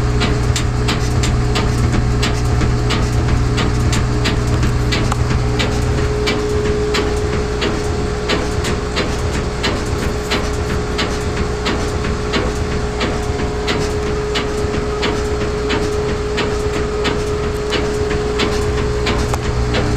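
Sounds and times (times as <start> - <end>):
washer spinning with whine: 0.0 - 19.9.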